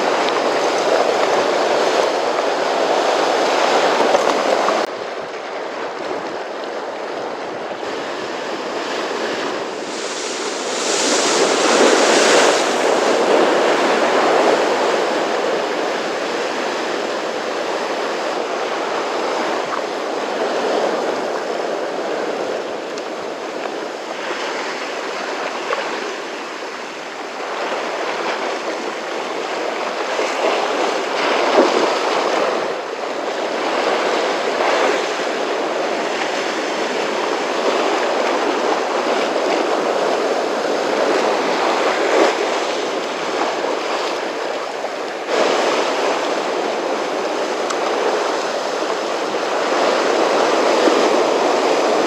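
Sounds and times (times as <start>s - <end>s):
rough sea surf washing in: 0.0s - 52.0s.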